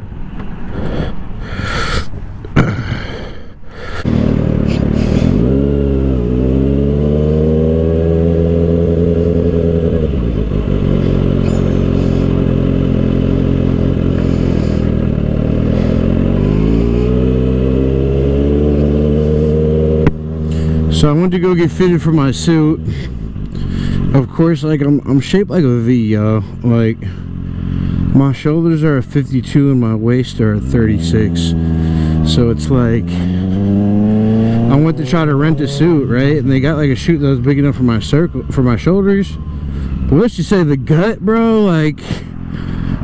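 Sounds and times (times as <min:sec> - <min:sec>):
motorcycle engine starting and idling: 0:03.8 - 0:43.0.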